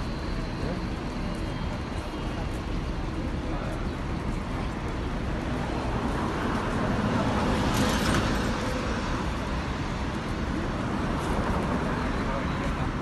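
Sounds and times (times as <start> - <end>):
traffic passing close by: 0.0 - 13.0.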